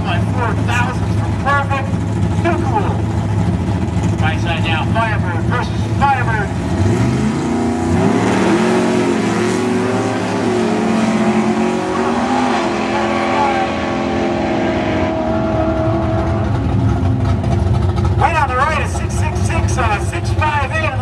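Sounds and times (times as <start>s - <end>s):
drag racing cars accelerating: 0.0s - 21.0s.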